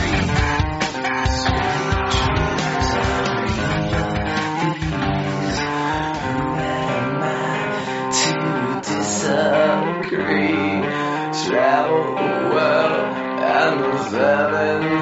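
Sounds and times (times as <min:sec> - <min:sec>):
song with guitar: 0:00.0 - 0:15.0.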